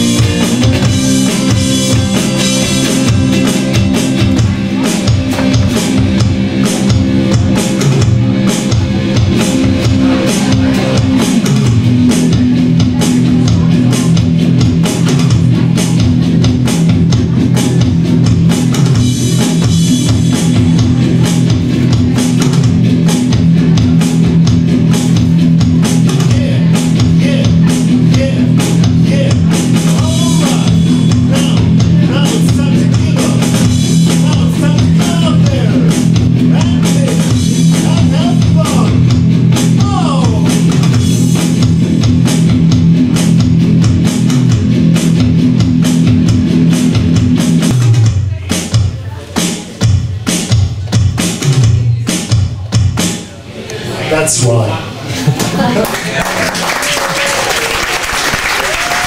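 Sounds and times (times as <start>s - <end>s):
electric guitar: 0.0s - 53.0s
drum kit beat: 0.0s - 53.5s, 54.4s - 59.0s.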